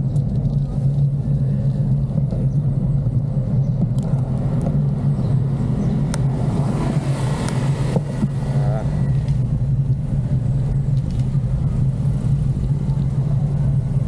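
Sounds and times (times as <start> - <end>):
broad rushing noise: 0.0 - 14.0
road and wind noise: 0.0 - 14.0.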